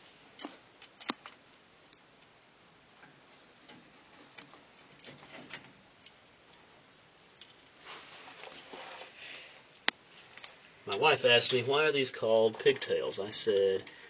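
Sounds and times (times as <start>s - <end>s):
wires rustling and clicking: 0.3s - 6.7s, 7.3s - 14.0s.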